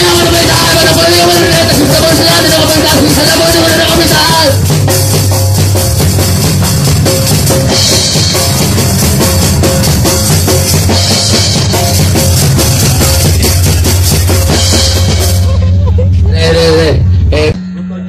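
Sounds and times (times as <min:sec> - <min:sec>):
drum beat: 0:00.0 - 0:18.0
punk band playing: 0:00.0 - 0:18.0.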